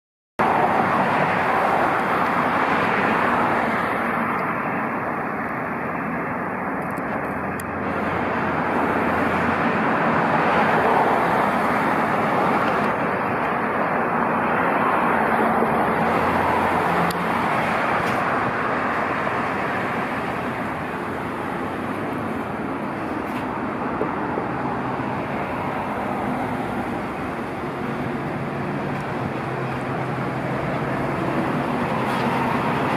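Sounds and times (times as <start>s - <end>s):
cars passing on road: 0.4s - 32.9s.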